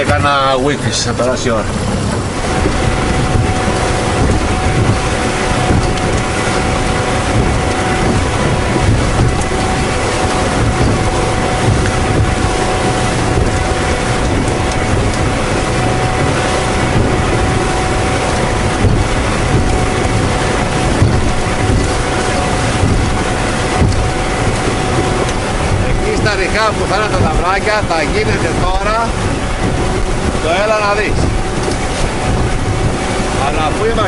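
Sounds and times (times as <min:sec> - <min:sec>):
outboard motor running: 0:00.0 - 0:34.0
wind buffeting microphone: 0:00.0 - 0:34.0.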